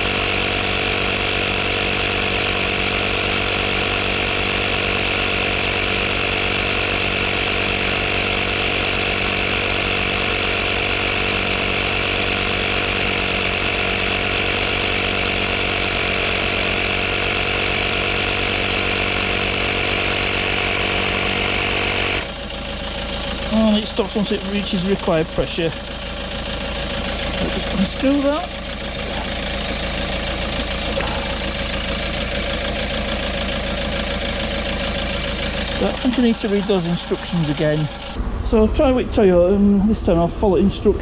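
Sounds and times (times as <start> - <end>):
tyre inflator compressor running: 0.0 - 38.2.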